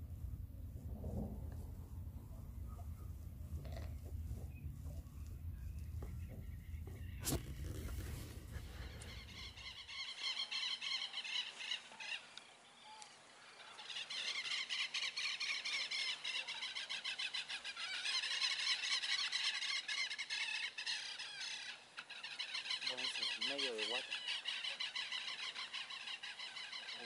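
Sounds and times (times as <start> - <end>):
birds chirping in chorus: 1.6 - 12.3, 13.4 - 27.0.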